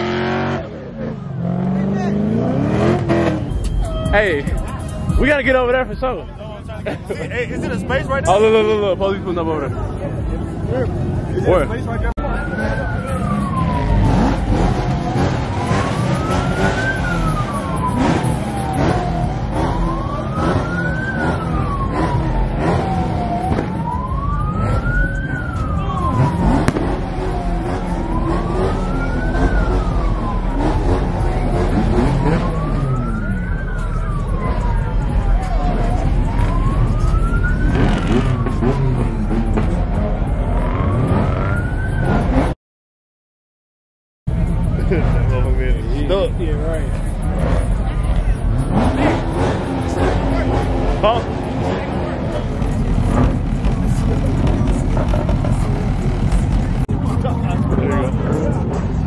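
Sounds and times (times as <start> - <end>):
crowd: 0.0 - 42.5, 44.3 - 59.0
rumble of cars: 0.0 - 42.6, 44.3 - 59.0
police siren wailing: 7.5 - 42.6, 44.3 - 59.0.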